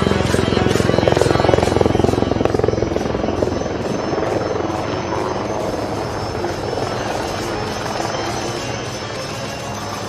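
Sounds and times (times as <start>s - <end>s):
helicopter rotor and engine noise: 0.0s - 10.0s.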